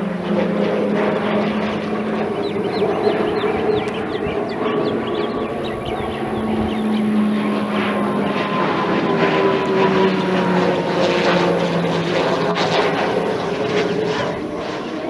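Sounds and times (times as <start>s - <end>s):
aircraft engine passing: 0.0s - 15.0s.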